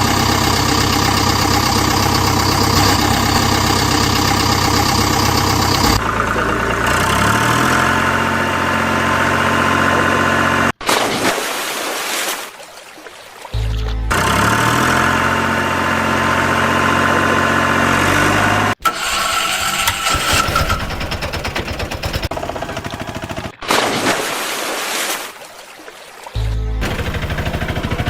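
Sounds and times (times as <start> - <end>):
engine starting and running: 0.0 - 10.8, 13.6 - 24.0, 26.4 - 28.0.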